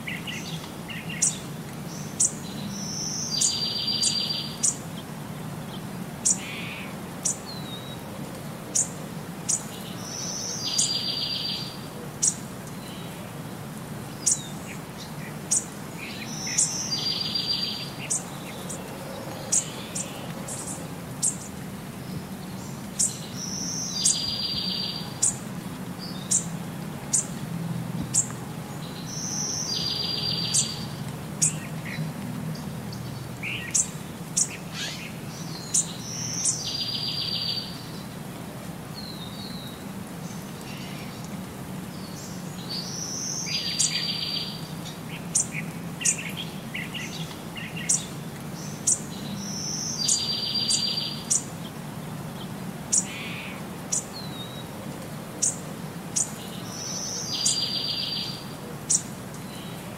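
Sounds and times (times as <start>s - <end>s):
small birds chirping: 0.0s - 38.2s, 39.0s - 59.9s.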